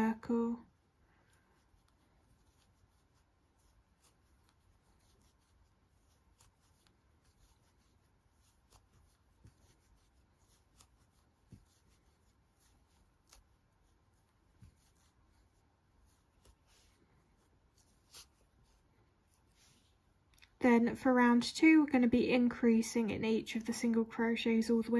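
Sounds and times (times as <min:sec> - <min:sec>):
yarn rustling: 0:00.0 - 0:20.5.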